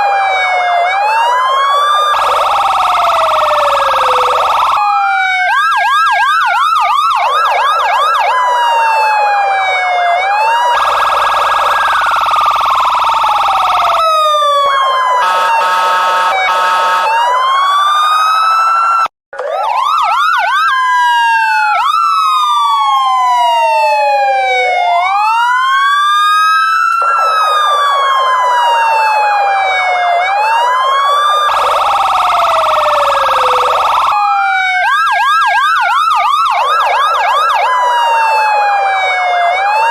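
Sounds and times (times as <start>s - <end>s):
police sirens: 0.0s - 39.9s.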